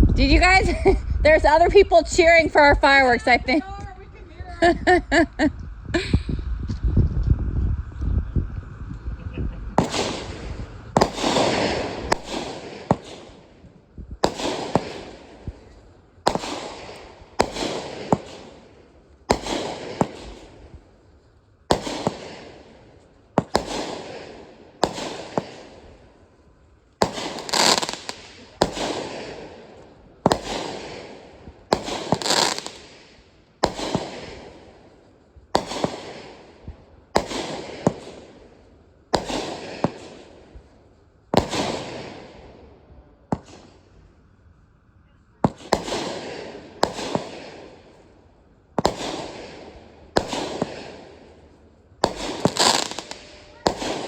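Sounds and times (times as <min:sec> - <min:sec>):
fireworks banging: 0:00.0 - 0:54.0
fireworks crackling: 0:00.0 - 0:54.0.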